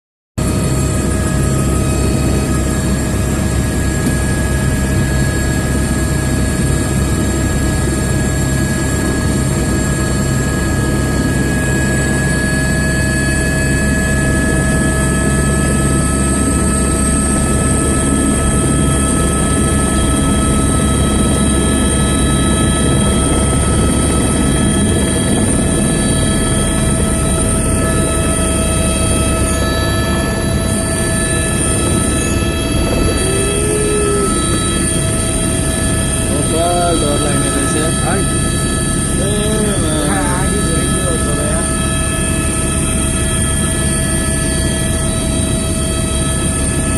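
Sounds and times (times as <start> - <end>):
helicopter rotor drone: 0.4 - 46.9
high turbine whine: 0.4 - 46.9.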